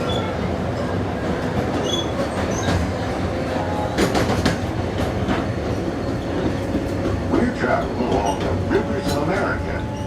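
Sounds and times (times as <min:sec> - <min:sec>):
train car rumbling on track: 0:00.0 - 0:10.0.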